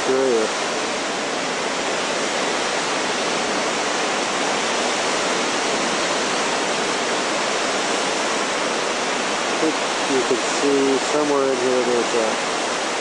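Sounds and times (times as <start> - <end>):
waves breaking on rocky shore: 0.0 - 13.0.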